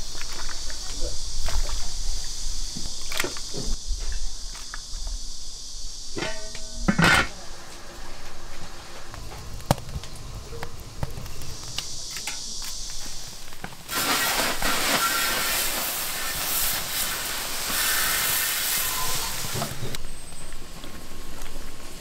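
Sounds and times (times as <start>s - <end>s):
steam hissing from cauldron: 0.0s - 22.0s.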